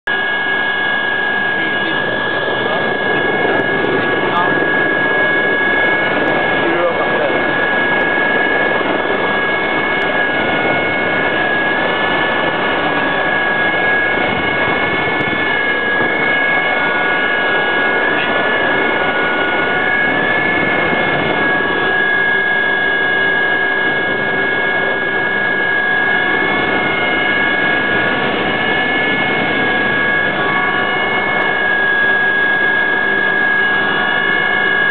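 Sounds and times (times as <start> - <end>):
helicopter engine whine: 0.0 - 34.9
engine and rotor rushing: 0.1 - 34.9.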